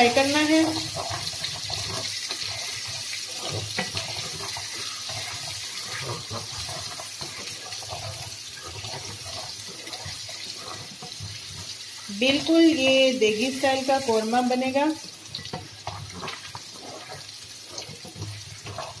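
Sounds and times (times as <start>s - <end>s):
spices sizzling in hot oil: 0.0s - 19.0s
wooden spoon stirring: 0.0s - 19.0s.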